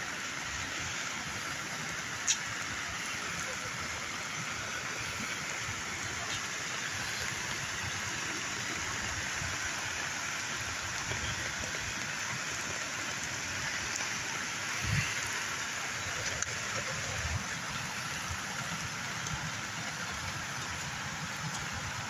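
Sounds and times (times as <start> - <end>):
floodwater rushing: 0.0 - 22.0
rain on an umbrella: 0.0 - 22.0.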